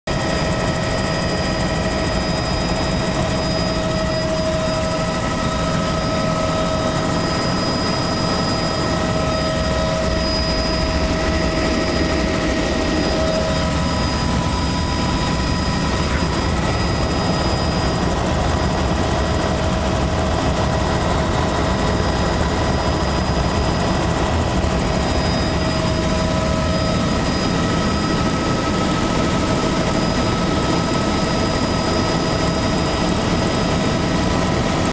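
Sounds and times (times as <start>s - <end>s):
high whining tones: 0.1s - 33.8s
helicopter engine and rotor drone: 0.1s - 34.9s.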